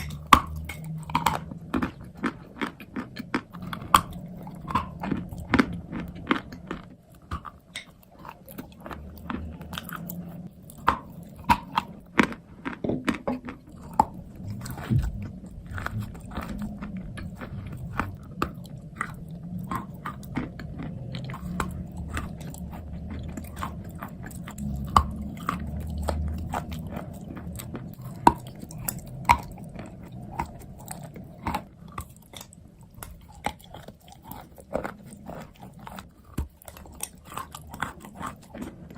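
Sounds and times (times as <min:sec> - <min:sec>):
low grinding of chewing: 0:00.0 - 0:38.9.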